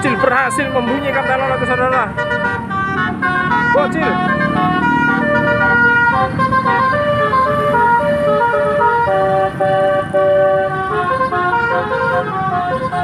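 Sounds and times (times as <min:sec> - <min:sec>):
multi-tone bus horn playing a tune: 0:00.0 - 0:13.0.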